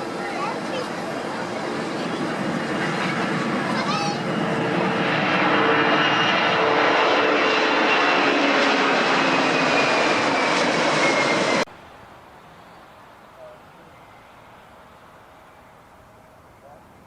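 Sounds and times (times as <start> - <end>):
airplane engine passing: 0.0 - 17.0.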